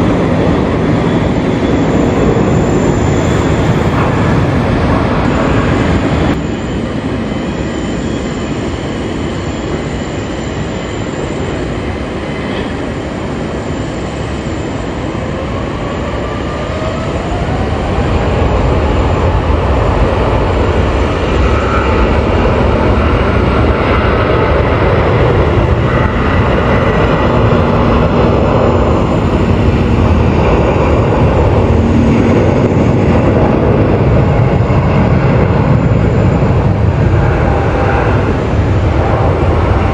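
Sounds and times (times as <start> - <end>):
jet engines spooling up: 0.0 - 39.9.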